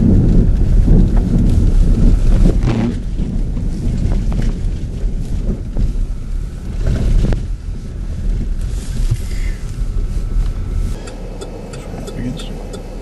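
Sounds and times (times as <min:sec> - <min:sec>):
blizzard wind buffeting microphone: 0:00.0 - 0:13.0.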